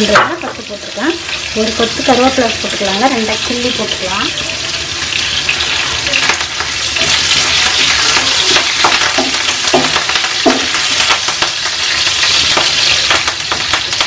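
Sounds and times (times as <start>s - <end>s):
hot oil sizzling in a frying pan: 0.0s - 14.0s.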